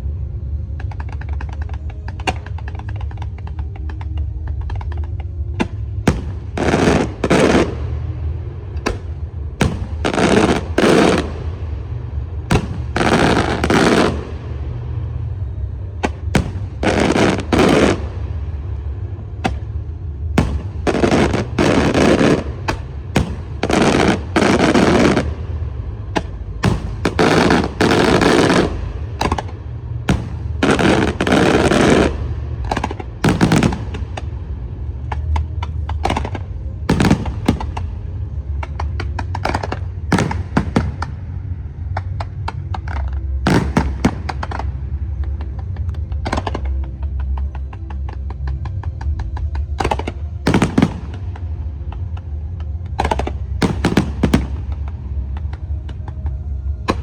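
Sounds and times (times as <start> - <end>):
loud firework blasts: 0.0 - 57.0
sharp firework cracks: 0.8 - 8.0, 8.7 - 11.8, 12.4 - 14.7, 16.0 - 34.4, 35.0 - 41.2, 41.8 - 57.0.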